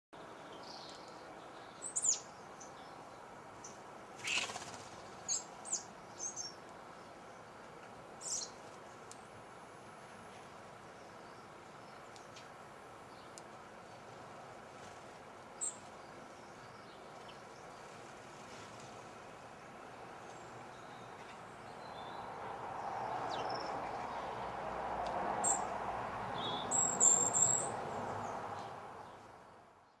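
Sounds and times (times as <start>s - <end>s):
small birds chirping: 0.2s - 14.2s, 14.8s - 18.1s, 18.8s - 24.6s, 25.3s - 30.0s
steady faint hiss: 0.2s - 29.9s.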